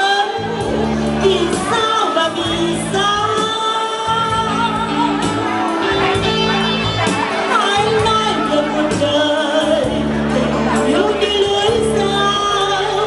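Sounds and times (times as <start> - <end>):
electronic keyboard accompaniment: 0.0 - 13.0
person singing: 0.0 - 13.0.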